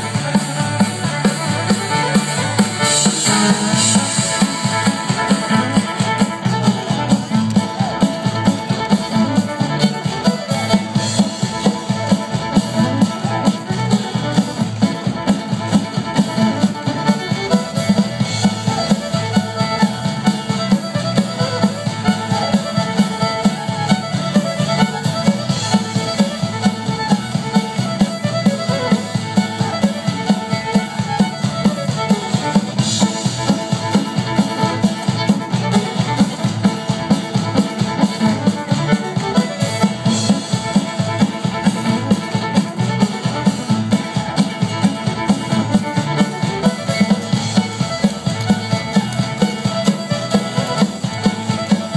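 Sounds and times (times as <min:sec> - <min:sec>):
fiddle dance tune: 0:00.0 - 0:51.9
steady drum beat: 0:00.0 - 0:51.9.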